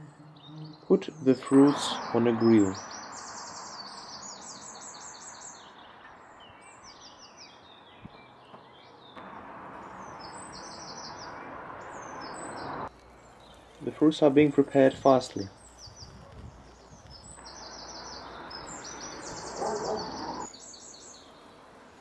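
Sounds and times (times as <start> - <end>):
small birds chirping: 0.0 - 22.0
steady outdoor hiss: 0.0 - 22.0.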